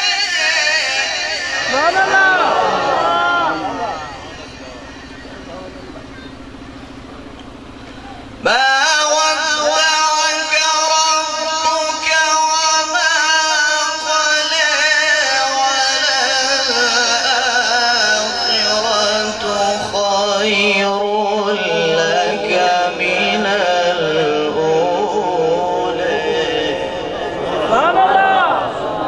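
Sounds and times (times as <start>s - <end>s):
man chanting melodically: 0.0s - 29.0s.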